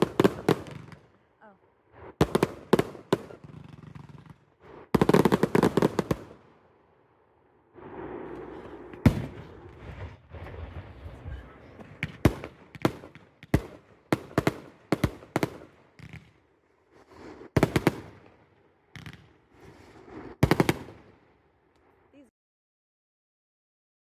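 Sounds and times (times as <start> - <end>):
fireworks bangs: 0.0 - 6.7, 7.6 - 21.3.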